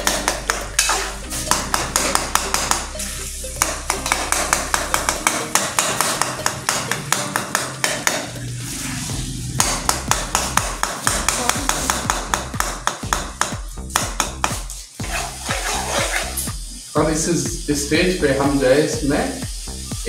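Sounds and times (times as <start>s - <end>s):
meat sizzling: 0.0s - 20.0s.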